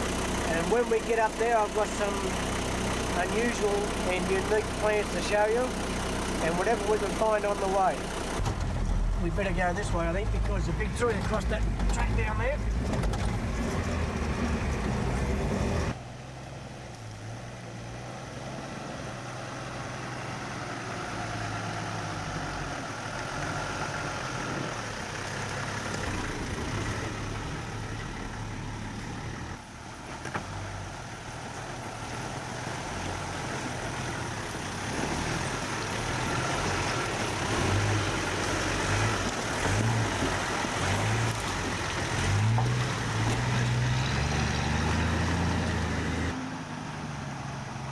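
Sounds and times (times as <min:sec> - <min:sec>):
vehicle engine under load: 0:00.0 - 0:47.9.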